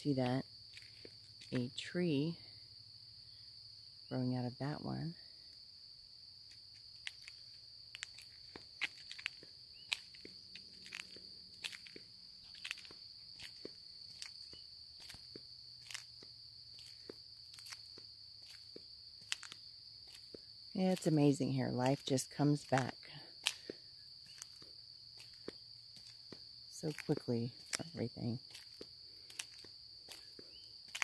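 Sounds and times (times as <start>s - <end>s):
footsteps crunching on trail: 0.0s - 1.6s, 6.4s - 21.2s, 21.8s - 31.0s
high-pitched insect chorus: 0.0s - 31.0s.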